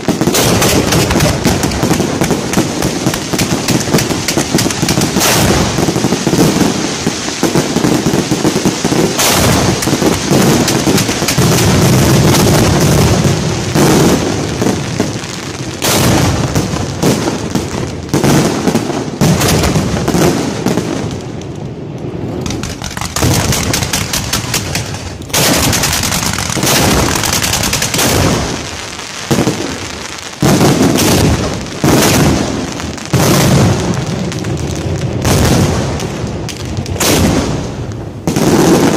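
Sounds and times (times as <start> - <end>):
fireworks launching and banging: 0.0 - 38.9.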